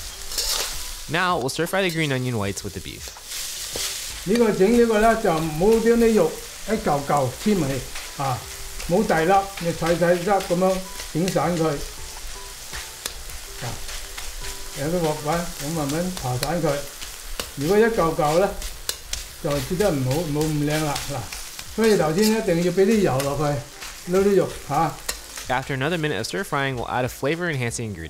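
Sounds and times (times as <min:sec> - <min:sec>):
metal spatula scraping and tapping wok: 0:00.0 - 0:01.1, 0:03.1 - 0:26.1
meat sizzling in a wok: 0:00.0 - 0:27.3.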